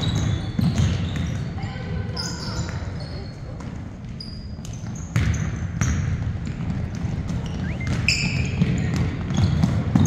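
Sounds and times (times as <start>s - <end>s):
basketball bouncing: 0.0s - 2.0s, 3.6s - 10.0s
sneaker squeaks: 0.0s - 10.0s.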